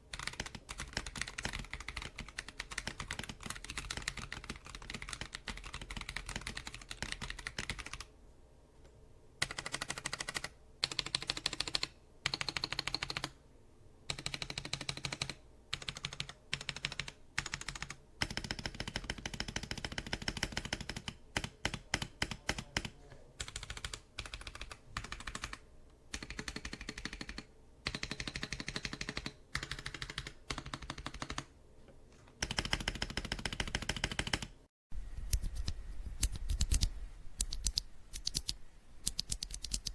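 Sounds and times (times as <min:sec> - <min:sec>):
mechanical keyboard typing: 0:00.1 - 0:08.1, 0:09.4 - 0:13.4, 0:14.1 - 0:31.5, 0:32.4 - 0:34.6, 0:35.3 - 0:39.9.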